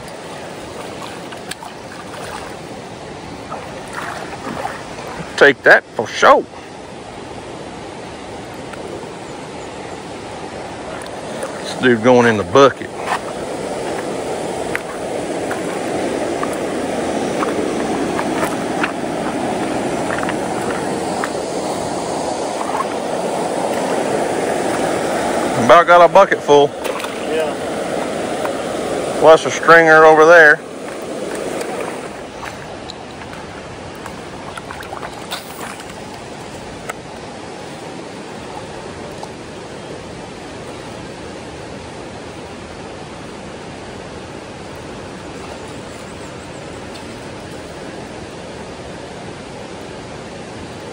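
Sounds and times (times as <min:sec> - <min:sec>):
creek water flowing: 0:00.0 - 0:50.9.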